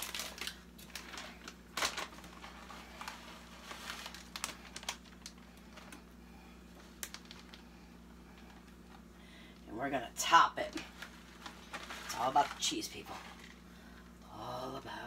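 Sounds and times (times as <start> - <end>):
plastic bag crinkling: 0.0 - 9.1, 10.6 - 14.2.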